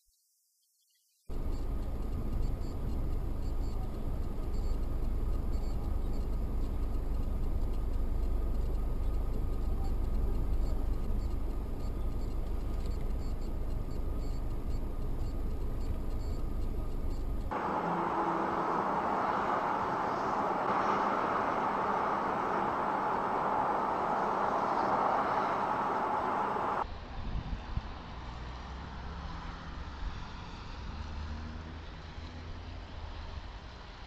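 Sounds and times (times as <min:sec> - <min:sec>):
car road and engine noise: 0:01.3 - 0:34.0.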